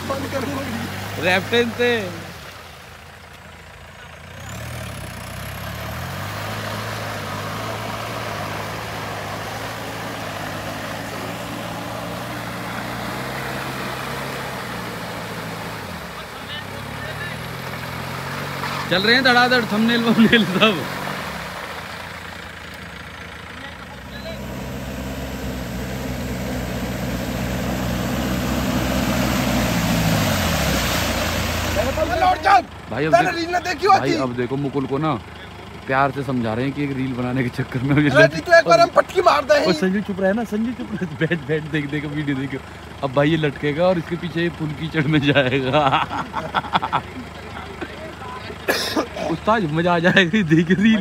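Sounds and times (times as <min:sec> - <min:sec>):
off-road vehicle engine under load: 0:00.0 - 0:51.0
tyres churning mud and water: 0:00.0 - 0:51.0.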